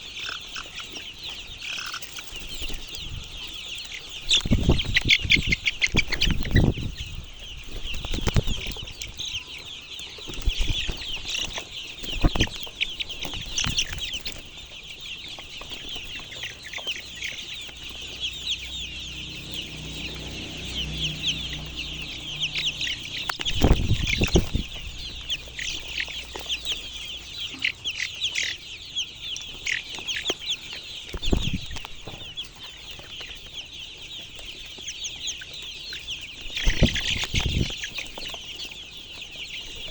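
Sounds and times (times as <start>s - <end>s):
chickens calling: 0.0s - 39.9s.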